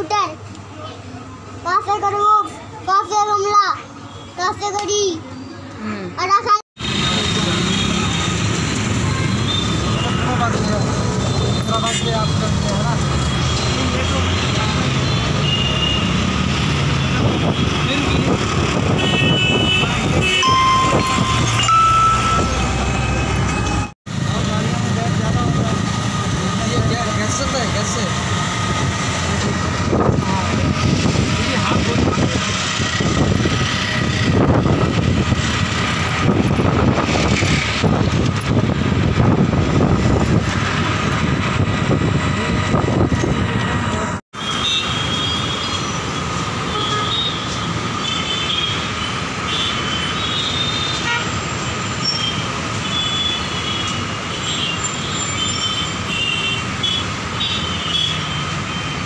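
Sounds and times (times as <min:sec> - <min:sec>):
city traffic noise: 0:00.0 - 0:59.0
road and wind noise: 0:00.0 - 0:59.0.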